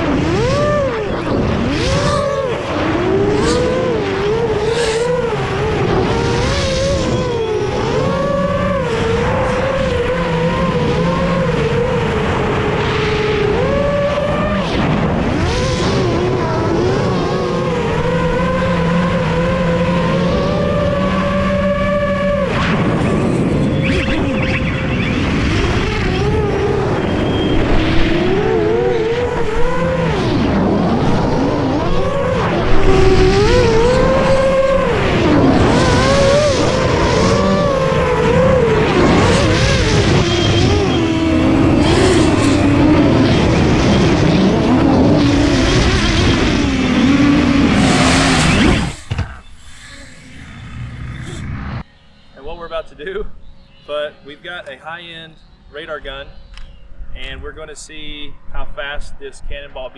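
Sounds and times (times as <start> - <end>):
drone motors whining: 0.0 - 59.6
constant low rumble: 0.0 - 59.9.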